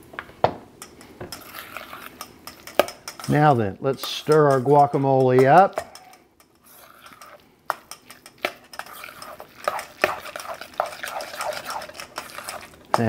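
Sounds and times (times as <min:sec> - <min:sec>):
utensil clinking and scraping bowl: 0:00.8 - 0:13.0.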